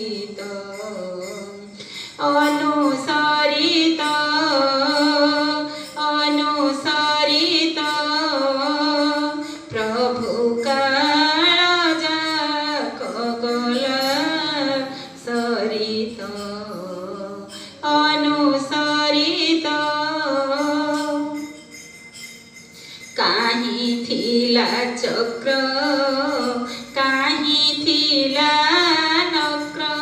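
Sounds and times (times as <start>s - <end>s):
woman singing ornamented notes: 0.0s - 30.0s.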